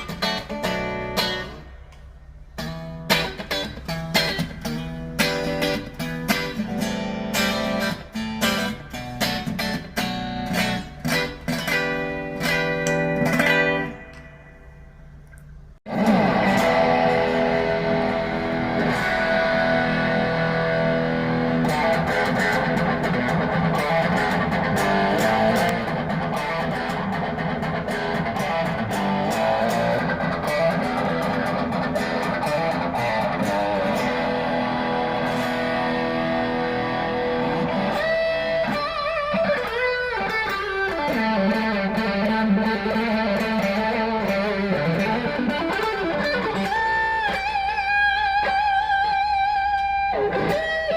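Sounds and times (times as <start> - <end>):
electric guitar through amplifier: 0.0 - 50.9.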